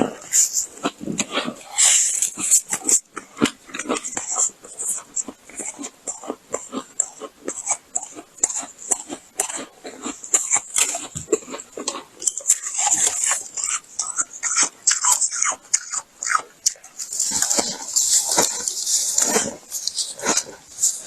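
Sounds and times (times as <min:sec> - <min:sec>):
chewing frost crunches: 0:00.0 - 0:21.0.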